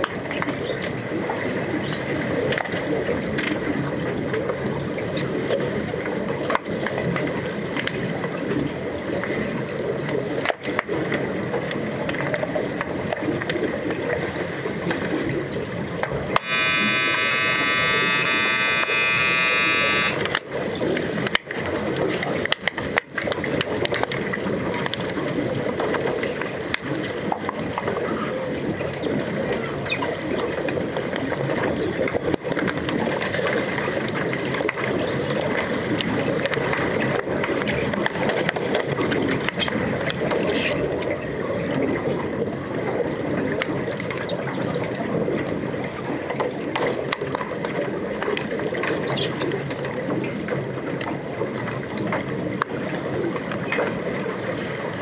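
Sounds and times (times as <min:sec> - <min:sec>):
underwater churning water and bubbles: 0:00.0 - 0:16.4, 0:20.4 - 0:55.0.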